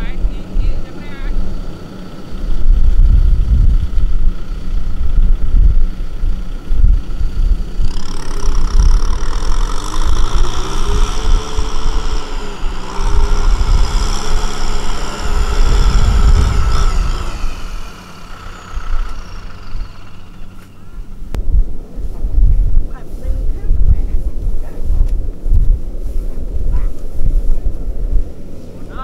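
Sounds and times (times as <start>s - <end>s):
farm machinery engine running: 0.0s - 29.0s
high pitched whine: 0.0s - 29.0s
wind buffeting microphone: 0.0s - 29.0s.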